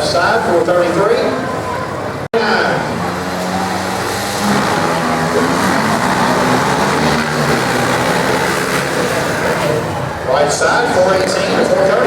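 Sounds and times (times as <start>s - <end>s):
drag racing engines revving: 0.0s - 12.0s.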